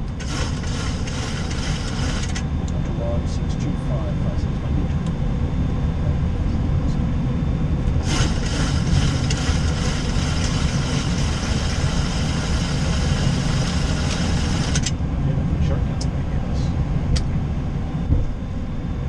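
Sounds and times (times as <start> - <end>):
airliner engines idling rumble: 0.0 - 19.0.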